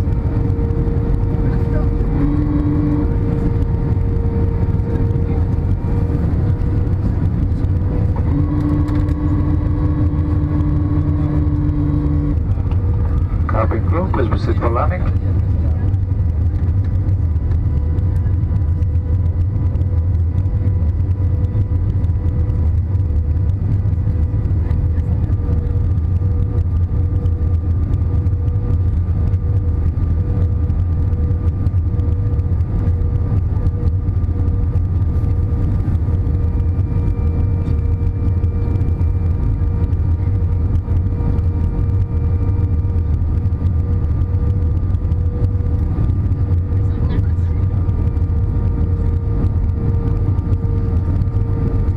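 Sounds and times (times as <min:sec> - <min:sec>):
jet engines and airflow rumble: 0:00.0 - 0:51.9
whining engine tones: 0:00.0 - 0:51.9.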